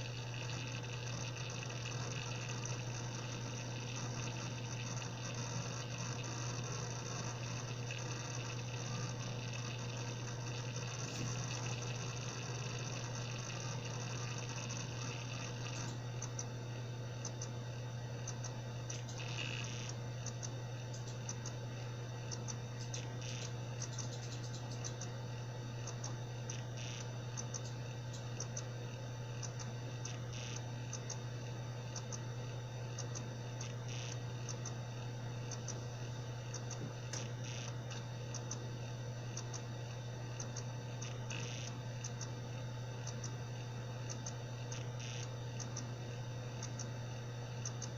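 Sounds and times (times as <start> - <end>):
hard drive spinning hum: 0.0 - 47.9.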